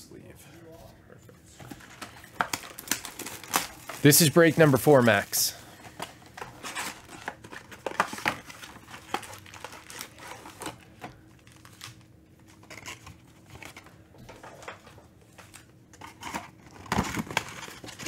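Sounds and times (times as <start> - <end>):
foil packs crinkling: 1.7 - 14.8, 15.5 - 18.0.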